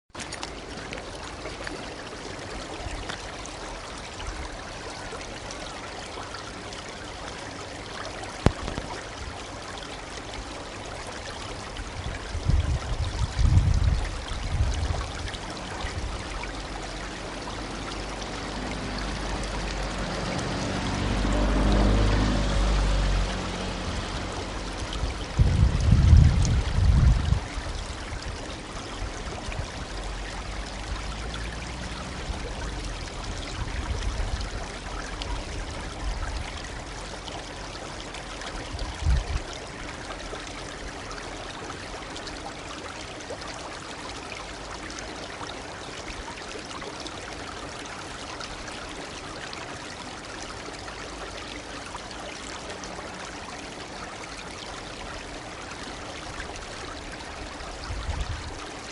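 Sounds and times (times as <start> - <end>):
brook babbling over stones: 0.1 - 58.9.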